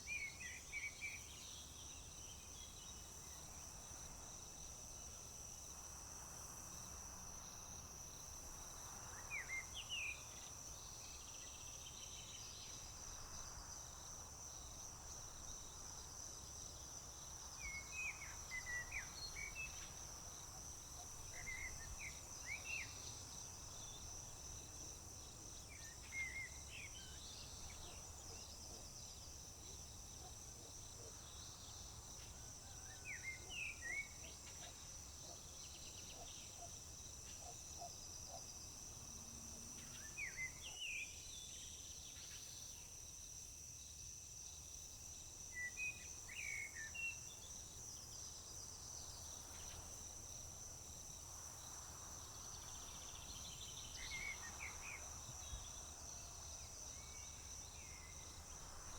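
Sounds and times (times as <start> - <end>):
crickets trilling: 0.1 - 58.9.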